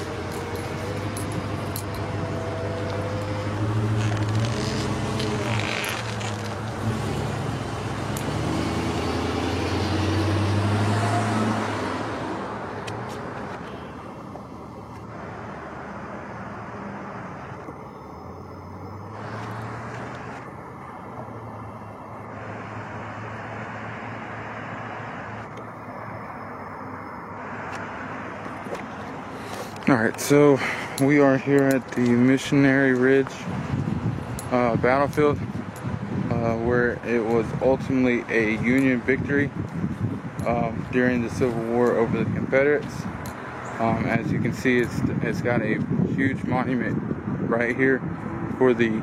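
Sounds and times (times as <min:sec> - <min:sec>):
car engine: 0:00.0 - 0:44.1
road noise while driving: 0:00.0 - 0:49.0.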